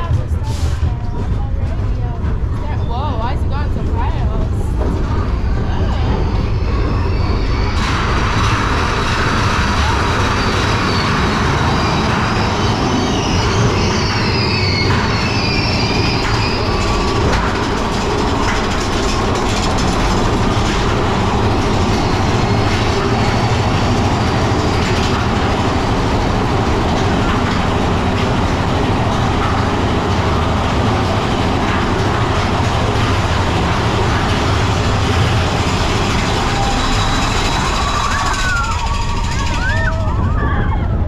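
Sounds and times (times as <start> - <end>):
roller coaster wheels rumbling on rails: 0.0 - 41.0.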